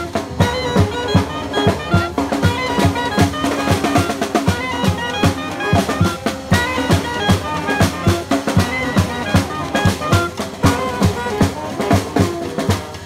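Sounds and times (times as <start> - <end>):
soprano saxophone: 0.0 - 13.0
steady drum beat: 0.0 - 13.0
street brass band playing: 0.0 - 13.0.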